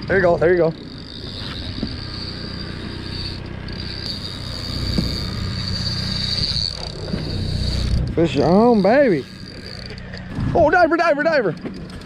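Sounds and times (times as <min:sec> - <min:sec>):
boat motor humming: 0:00.0 - 0:12.0
high buzzing whine: 0:00.0 - 0:12.0.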